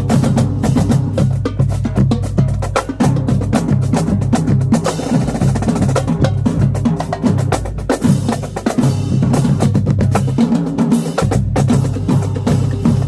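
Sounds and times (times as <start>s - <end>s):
pitched bass drums: 0.0s - 13.0s.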